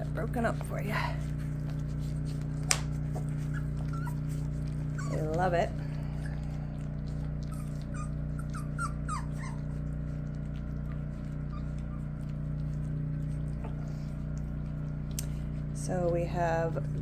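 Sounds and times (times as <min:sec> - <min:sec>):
puppies eating: 0:00.0 - 0:17.0
steady low hum: 0:00.0 - 0:17.0
high puppy whimpers: 0:01.4 - 0:15.6.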